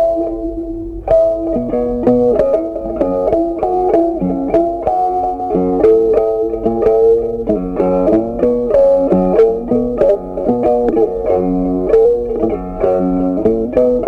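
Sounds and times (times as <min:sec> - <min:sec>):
plucked string melody over a beat: 0:00.0 - 0:14.0.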